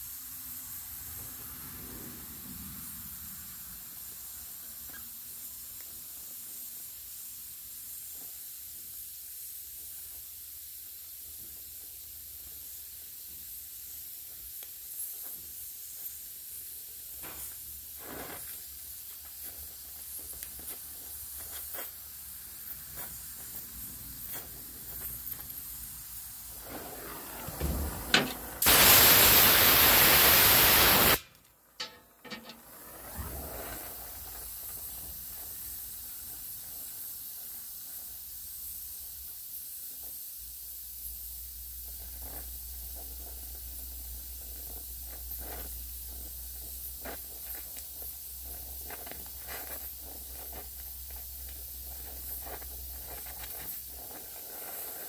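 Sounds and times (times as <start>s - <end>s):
welding torch flame hissing: 0.0s - 55.0s.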